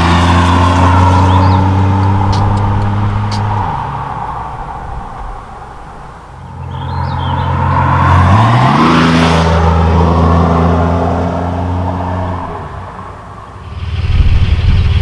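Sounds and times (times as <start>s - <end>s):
car exhaust accelerating: 0.0s - 15.0s.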